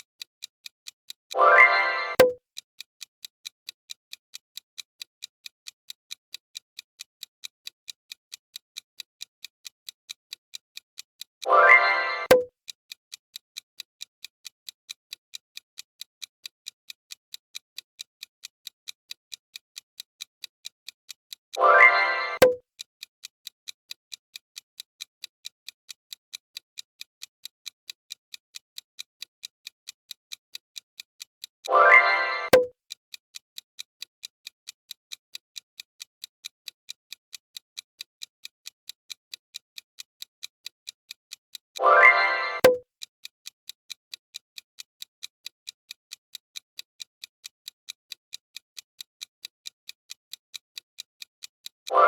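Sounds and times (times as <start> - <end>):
clock ticking fast: 0.0 - 52.0.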